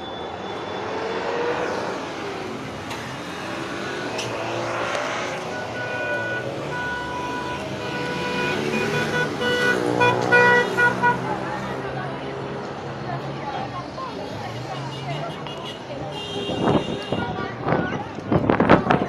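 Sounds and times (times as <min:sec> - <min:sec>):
roadside traffic din: 0:00.0 - 0:19.0.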